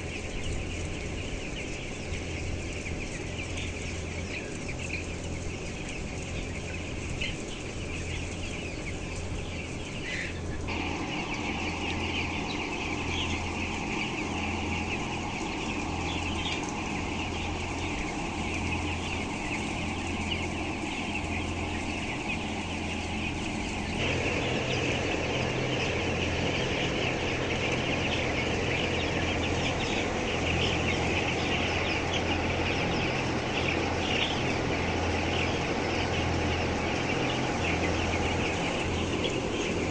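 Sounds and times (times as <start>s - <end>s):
chickens cheeping and clucking: 0.0s - 39.9s
low steady hum: 0.0s - 39.9s.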